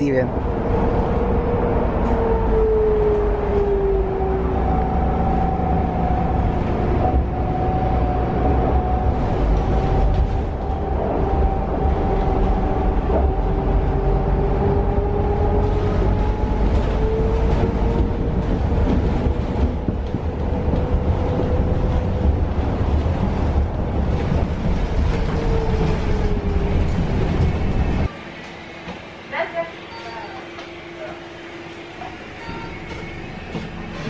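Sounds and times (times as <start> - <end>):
bus drivetrain and road rumble: 0.0 - 34.0
bus whine: 0.0 - 34.0.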